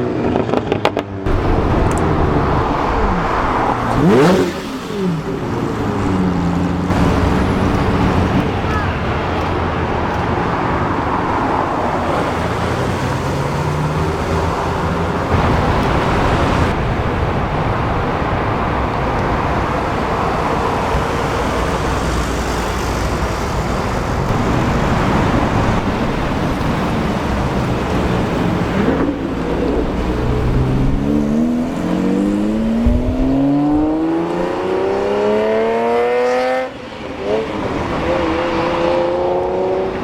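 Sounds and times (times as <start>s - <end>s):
car traffic: 0.0s - 40.0s.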